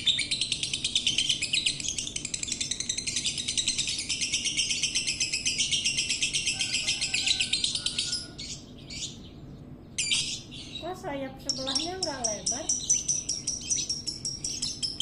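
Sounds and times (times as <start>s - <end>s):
lovebird chirping: 0.0s - 15.0s.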